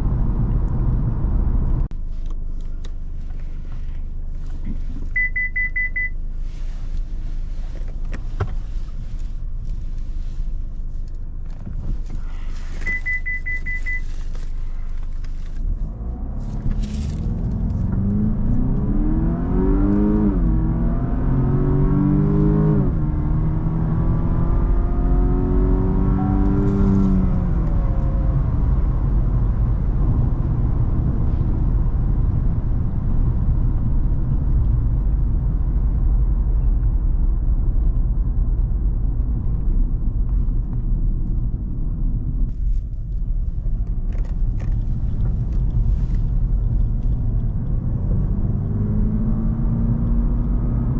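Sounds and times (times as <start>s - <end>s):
car engine accelerating: 0.0s - 50.9s
low road rumble: 0.0s - 50.9s.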